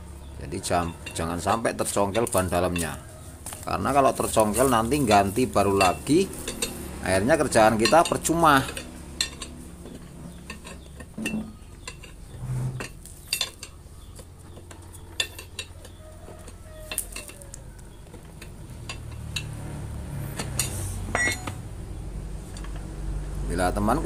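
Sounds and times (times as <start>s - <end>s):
metal tyre levers clinking on rim: 0.2s - 21.8s, 22.4s - 23.0s.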